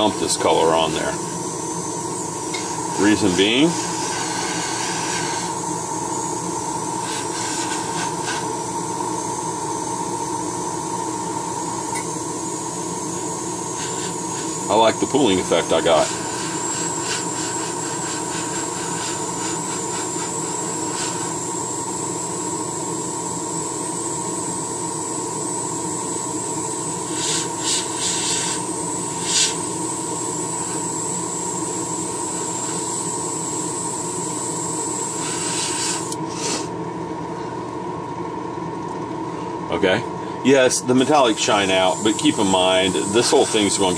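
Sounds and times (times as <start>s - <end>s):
airbrush hissing: 0.0s - 36.7s, 41.0s - 43.9s
steady hum: 0.0s - 43.9s.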